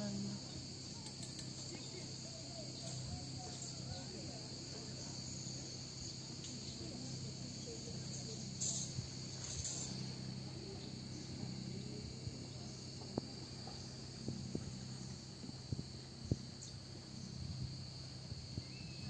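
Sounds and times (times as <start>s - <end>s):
cicadas shrilling: 0.0s - 19.0s.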